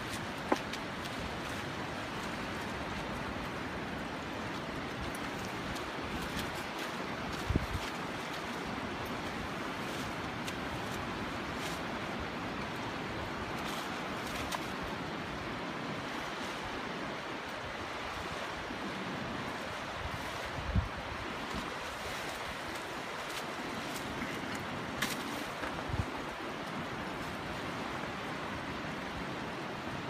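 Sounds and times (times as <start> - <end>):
wind on microphone: 0.0 - 12.4, 13.2 - 27.6
surf washing over beach: 0.0 - 30.0.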